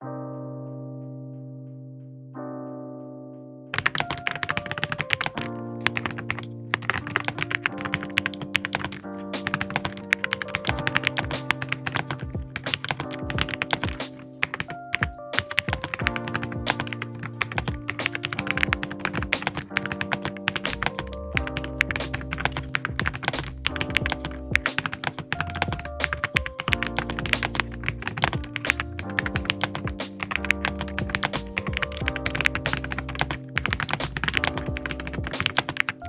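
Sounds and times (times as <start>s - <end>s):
background music with held notes: 0.0s - 36.0s
mechanical keyboard typing: 3.8s - 36.0s.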